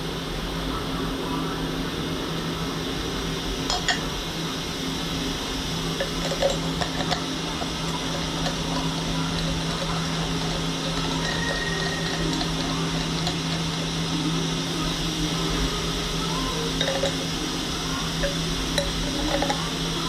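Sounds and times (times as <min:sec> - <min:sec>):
milling machine cutting metal: 0:03.6 - 0:20.0.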